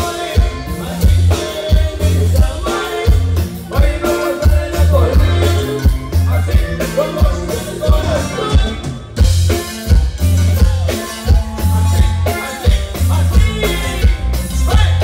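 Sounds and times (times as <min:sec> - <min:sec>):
accordion: 0:00.0 - 0:15.0
drum kit: 0:00.0 - 0:15.0
electric bass: 0:00.0 - 0:15.0.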